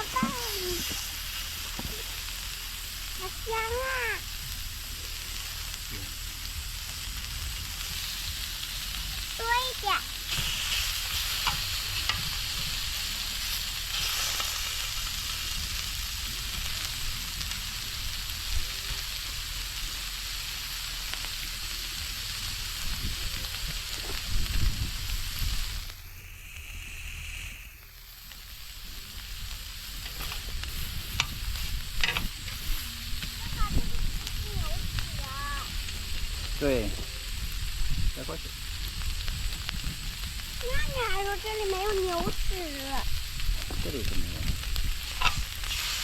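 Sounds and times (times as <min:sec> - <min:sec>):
meat sizzling in a pan: 0:00.0 - 0:46.0.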